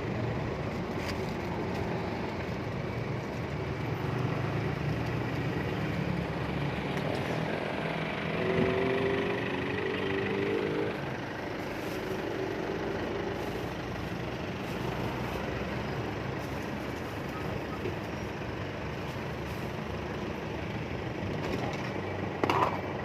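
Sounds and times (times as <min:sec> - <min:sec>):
engine hum: 0:00.0 - 0:23.0
street traffic: 0:00.0 - 0:23.0.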